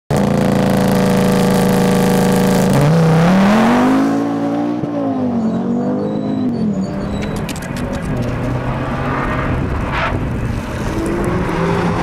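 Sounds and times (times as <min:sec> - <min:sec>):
car engine running hard: 0:00.1 - 0:12.0.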